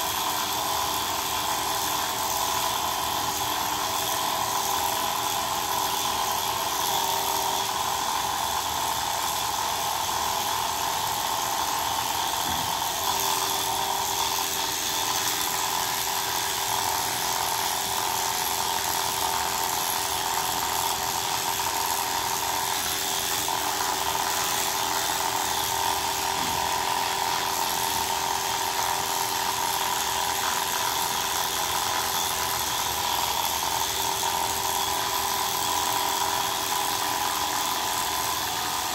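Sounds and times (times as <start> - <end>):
electric pet clippers buzzing: 0.0 - 38.9.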